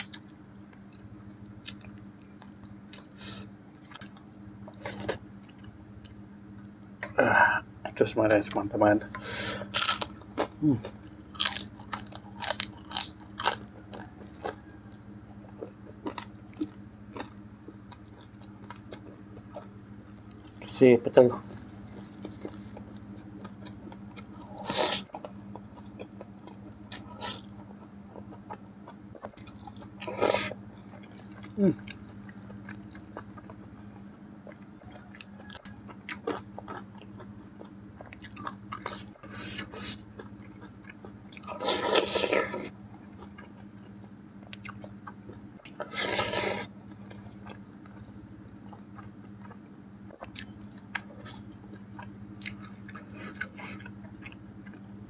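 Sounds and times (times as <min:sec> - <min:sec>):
person chewing food: 0:00.0 - 0:06.2, 0:09.1 - 0:55.0
steady low hum: 0:00.0 - 0:55.0.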